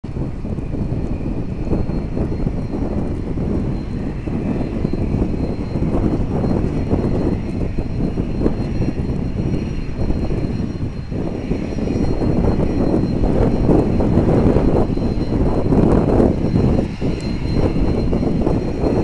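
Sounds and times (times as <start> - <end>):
high turbine whine: 0.0 - 19.0
jet engines roaring: 0.0 - 19.0.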